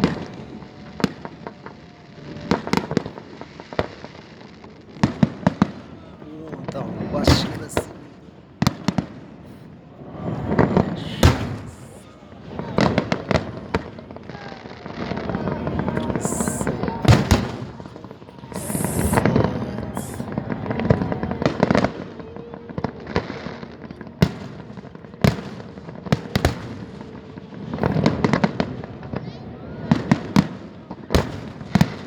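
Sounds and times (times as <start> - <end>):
fireworks bangs: 0.0 - 32.0
fireworks crackling: 0.0 - 32.0.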